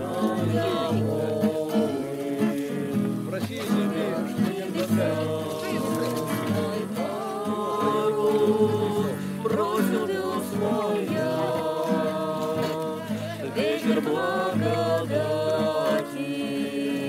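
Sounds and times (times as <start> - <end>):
acoustic guitar: 0.0 - 17.0
group singing together: 0.0 - 17.0.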